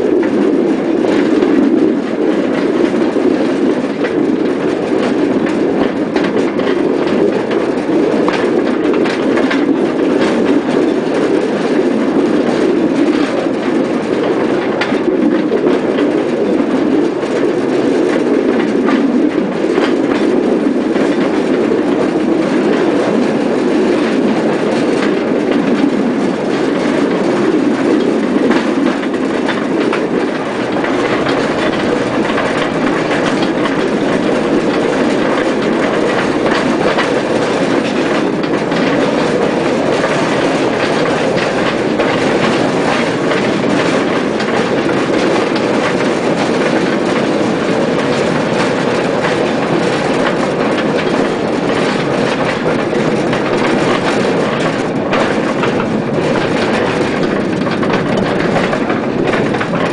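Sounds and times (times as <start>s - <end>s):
clicks from rail joints: 0.0s - 59.9s
train wheels rumbling on rail: 0.0s - 59.9s.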